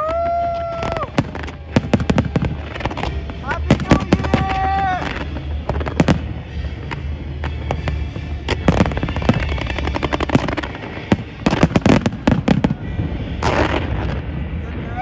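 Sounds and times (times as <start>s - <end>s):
fast firework crackling: 0.0s - 15.0s.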